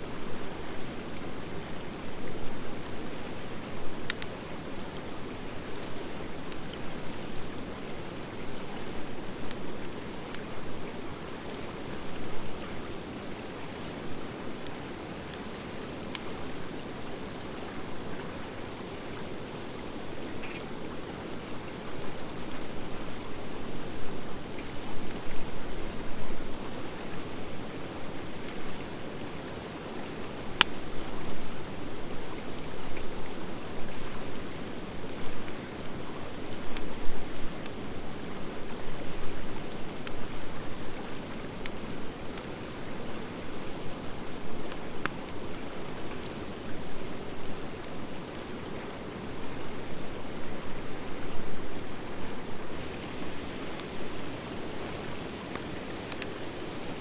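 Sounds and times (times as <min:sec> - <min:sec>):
fire crackling and popping: 0:00.1 - 0:57.0.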